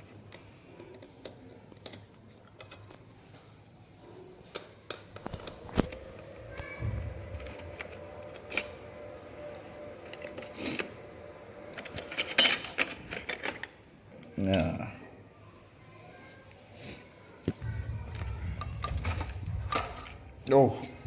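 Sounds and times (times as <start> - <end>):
plastic parts clicking and knocking: 0.0 - 3.3, 4.4 - 14.8, 17.5 - 21.0.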